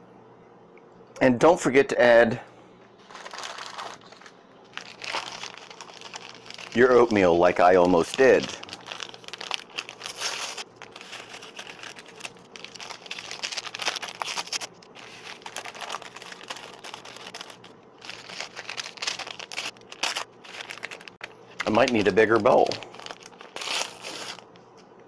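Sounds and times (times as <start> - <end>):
paper packets crinkling: 3.0 - 24.8.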